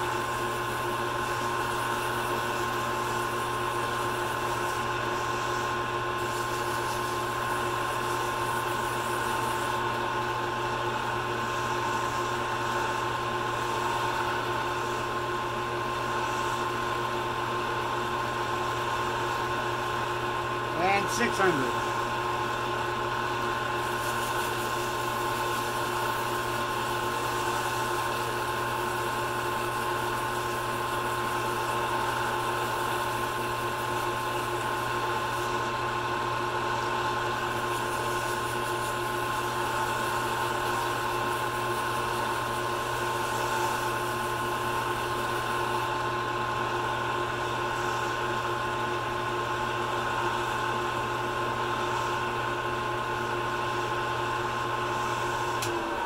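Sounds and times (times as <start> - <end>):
wood lathe motor whine: 0.0 - 56.0.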